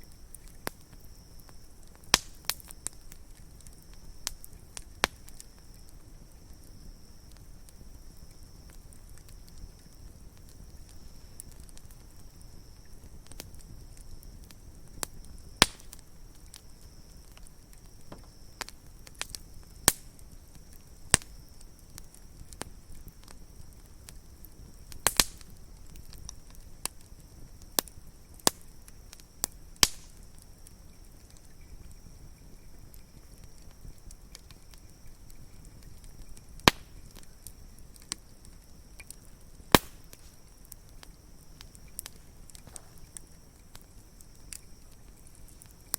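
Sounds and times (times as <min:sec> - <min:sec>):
campfire wood crackling: 0:00.0 - 0:45.9
sharp pops of fire: 0:00.0 - 0:45.9.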